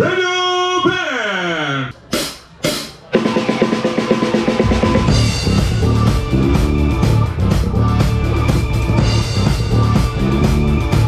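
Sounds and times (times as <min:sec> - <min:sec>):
drum kit: 0:01.9 - 0:11.0
live band playing: 0:01.9 - 0:11.0.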